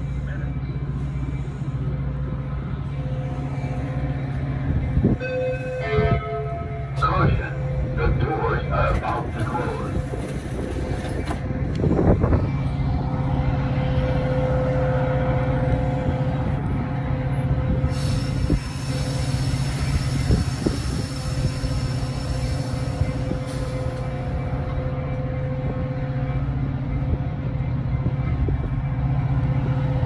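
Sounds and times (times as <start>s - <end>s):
train low hum with fixed tone: 0.0s - 30.0s.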